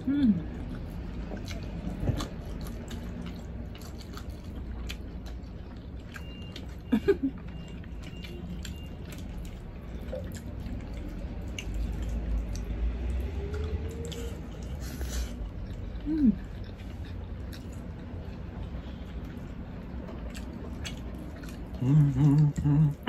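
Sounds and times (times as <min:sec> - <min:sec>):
chewing mouth sounds: 0:00.0 - 0:23.0.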